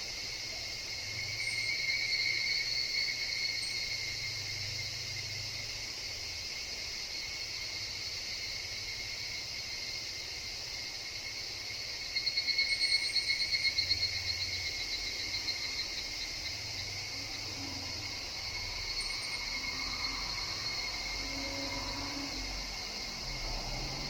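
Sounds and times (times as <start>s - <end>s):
cicada chorus drone: 0.0s - 24.0s
rapidly pulsing cicada call: 0.0s - 24.0s.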